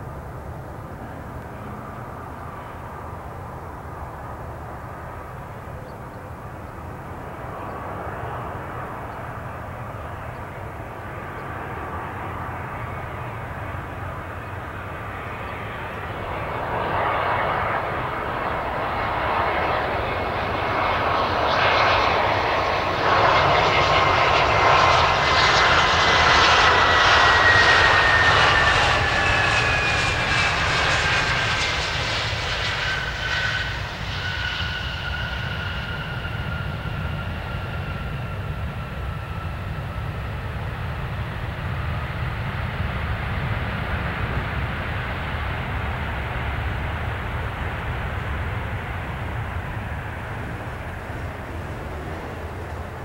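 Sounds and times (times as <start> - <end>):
jet engine whine: 0.0 - 53.0
jet engines rushing: 0.0 - 53.0.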